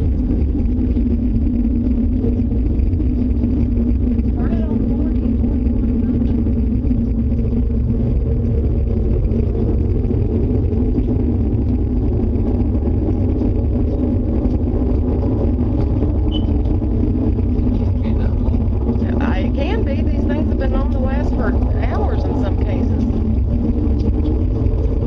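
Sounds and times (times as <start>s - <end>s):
low rumbling drone: 0.0s - 25.0s.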